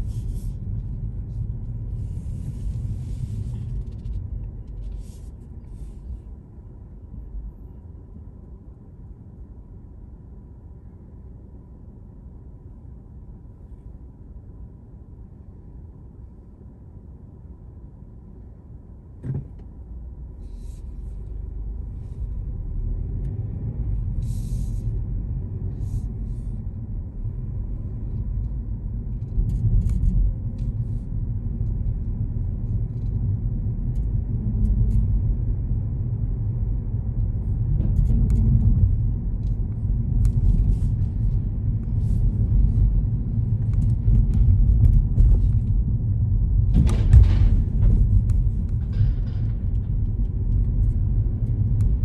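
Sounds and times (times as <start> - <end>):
car cabin road rumble: 0.0 - 10.4, 17.8 - 52.0.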